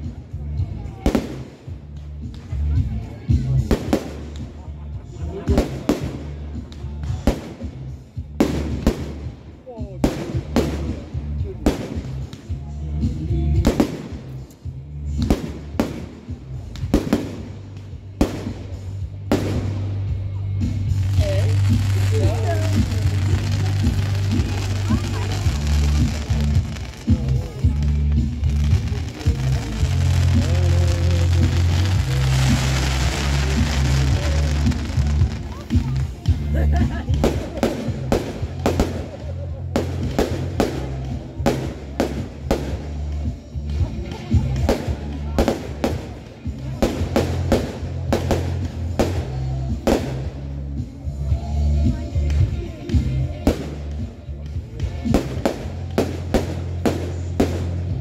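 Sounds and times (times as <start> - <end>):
fireworks bursting with sharp bangs: 0.0 - 58.0
music with low bass: 0.0 - 58.0.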